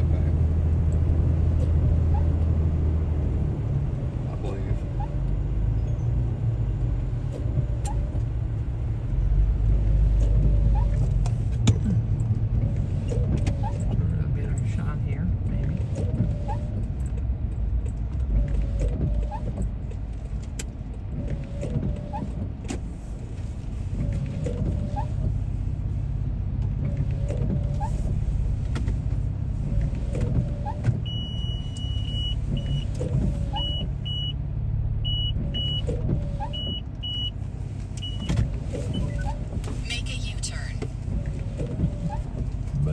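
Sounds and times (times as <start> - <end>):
car engine and road rumble: 0.0 - 42.9
windshield wipers squeaking: 1.4 - 2.6, 4.4 - 6.3, 7.2 - 8.9, 9.7 - 34.3, 35.0 - 42.9.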